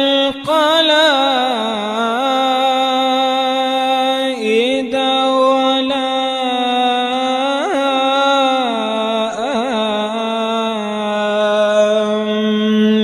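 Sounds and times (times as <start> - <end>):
person chanting recitation: 0.0 - 13.0.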